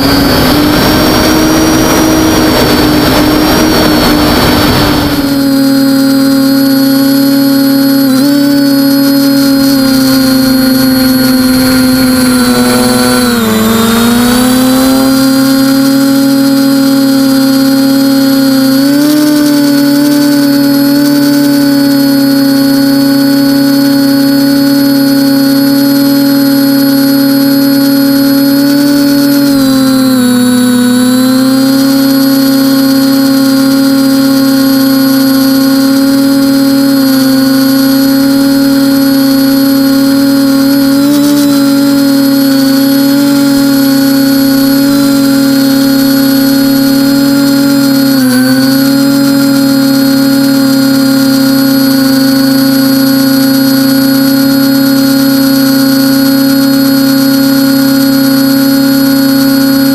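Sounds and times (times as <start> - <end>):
quadcopter propellers whining: 0.0 - 59.9.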